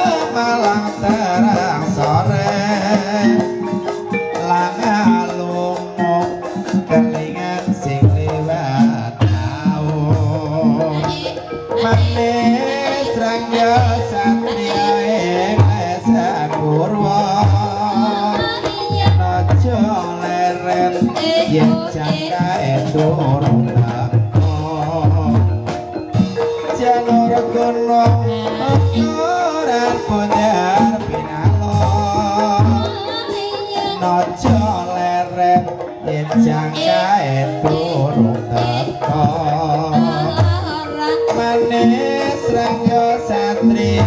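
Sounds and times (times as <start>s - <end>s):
hand drum strokes: 0.0s - 44.0s
metallophone tones: 0.0s - 44.0s
person singing: 0.0s - 44.0s.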